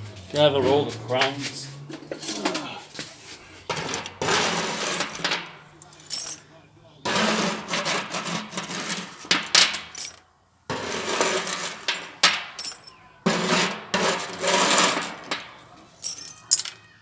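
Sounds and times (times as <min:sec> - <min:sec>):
scrap steel pieces clattering: 0:02.1 - 0:02.7, 0:03.7 - 0:17.0.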